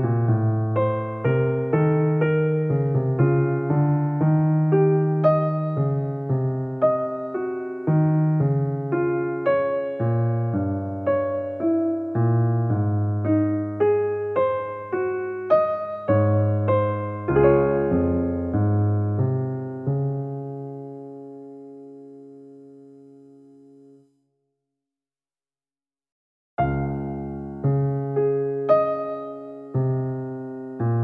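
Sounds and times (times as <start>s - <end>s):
slow gentle piano piece: 0.0s - 24.2s, 26.6s - 31.0s.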